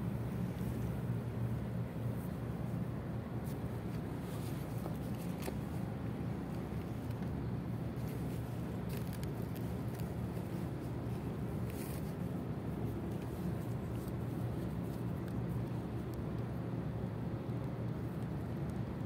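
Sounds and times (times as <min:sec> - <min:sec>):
low rumble of waterfront noise: 0:00.0 - 0:19.0.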